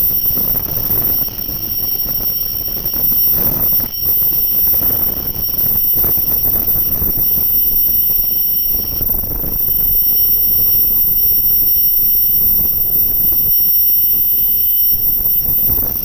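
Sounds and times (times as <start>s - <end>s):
drilling machine spindle whine: 0.0s - 16.0s.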